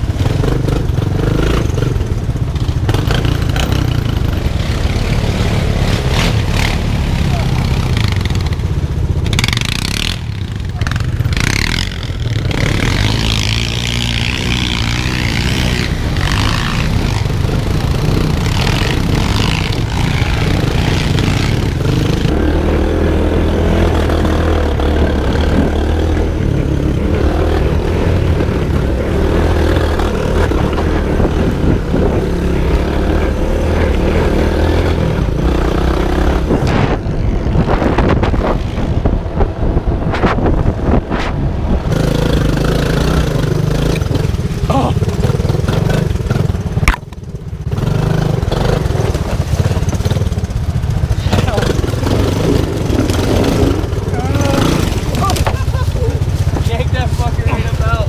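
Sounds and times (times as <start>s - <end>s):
off-road vehicle engine revving: 0.0s - 58.0s.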